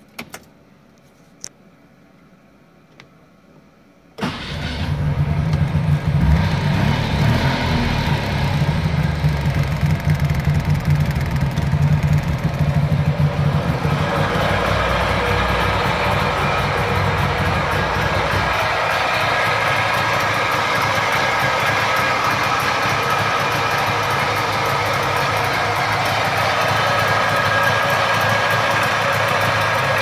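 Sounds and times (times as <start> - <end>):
two-stroke car engine starting: 4.2 - 30.0.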